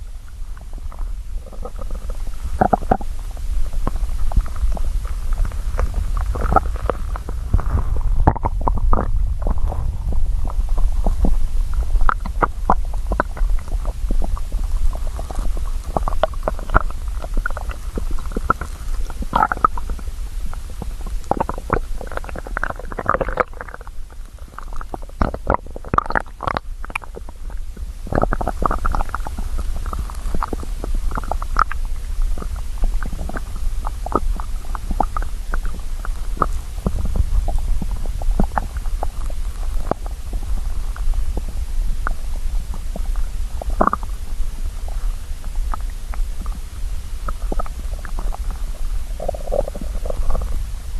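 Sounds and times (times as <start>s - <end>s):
low stomach rumble: 0.0s - 50.9s
stomach gurgles and pops: 0.0s - 50.9s.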